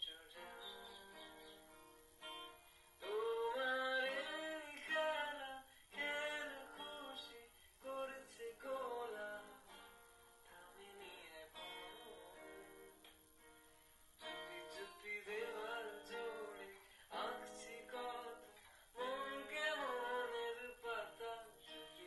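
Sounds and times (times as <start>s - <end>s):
acoustic guitar: 0.0s - 22.0s
man singing: 3.0s - 12.9s, 14.2s - 22.0s.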